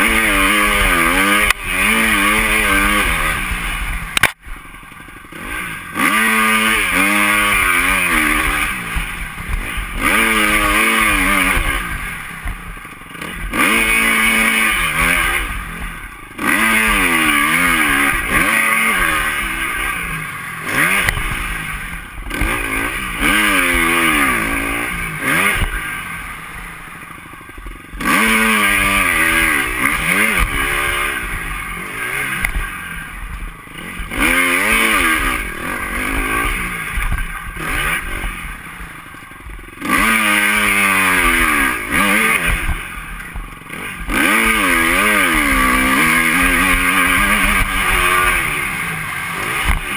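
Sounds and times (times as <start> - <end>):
motocross engine revving: 0.0 - 49.9.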